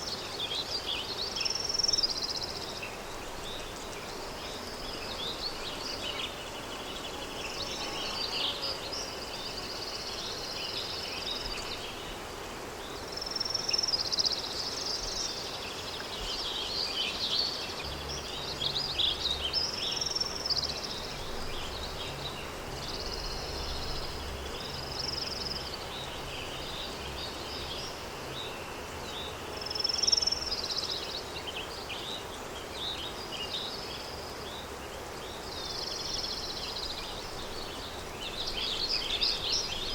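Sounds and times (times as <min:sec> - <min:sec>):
background hiss: 0:00.0 - 0:39.9
songbirds chirping and trilling: 0:00.0 - 0:39.9.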